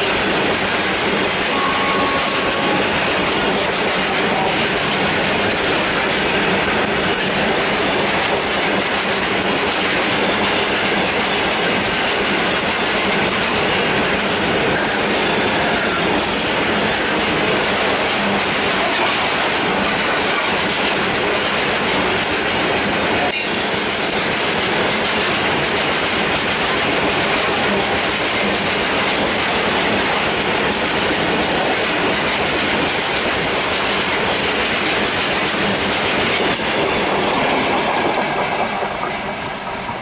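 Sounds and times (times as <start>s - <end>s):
freight wagon wheels clattering on rails: 0.0s - 40.0s.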